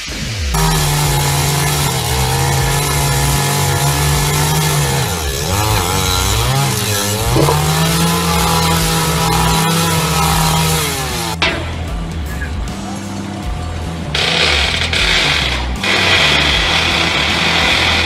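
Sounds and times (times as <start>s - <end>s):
earth auger engine running: 0.6s - 11.4s, 14.1s - 18.0s.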